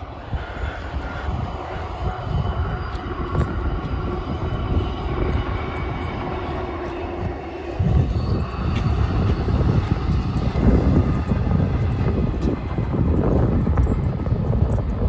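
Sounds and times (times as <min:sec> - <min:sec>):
faint steady tones: 0:00.0 - 0:15.0
train wheels rumbling on rail: 0:00.0 - 0:15.0.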